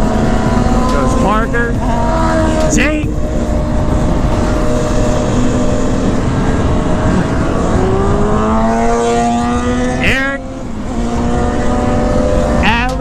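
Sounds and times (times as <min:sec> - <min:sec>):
motorcycle engine: 0:00.0 - 0:13.0
wind noise: 0:00.0 - 0:13.0.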